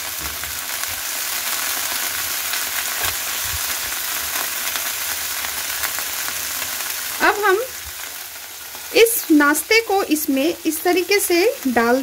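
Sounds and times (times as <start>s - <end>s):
leaves sizzling in hot oil: 0.0s - 12.0s.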